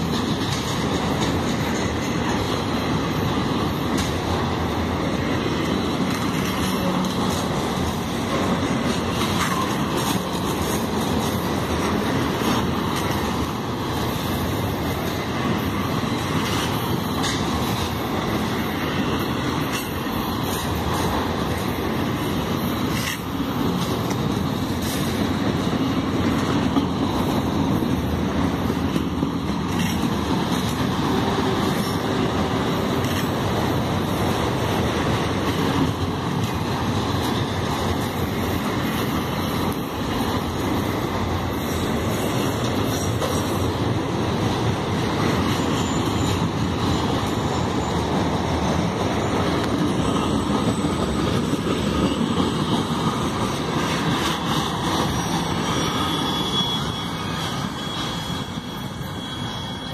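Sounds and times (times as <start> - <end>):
freight cars rolling on rails: 0.0 - 59.9.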